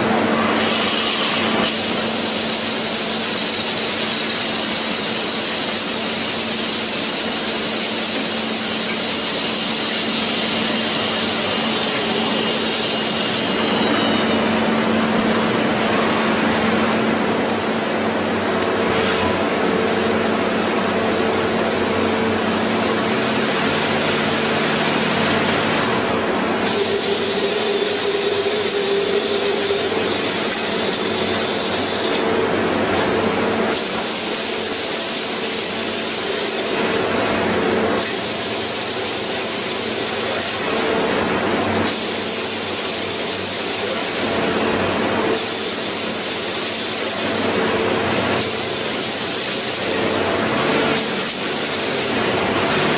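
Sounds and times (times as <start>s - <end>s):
high machine whine: 0.0s - 52.9s
machine tool running: 0.0s - 52.9s.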